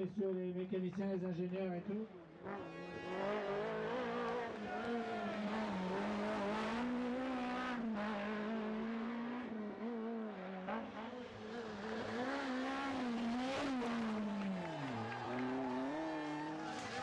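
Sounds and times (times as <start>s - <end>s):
rally car engine at high revs: 2.3s - 17.0s.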